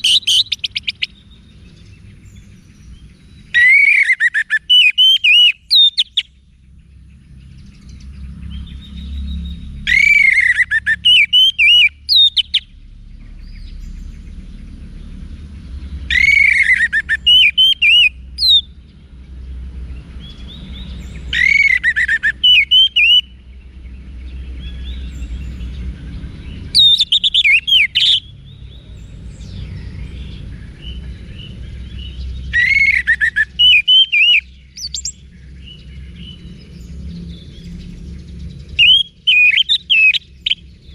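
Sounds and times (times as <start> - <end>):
thrush singing whistled notes: 0.0 - 19.0, 20.0 - 40.9
low steady rumble: 0.0 - 40.9.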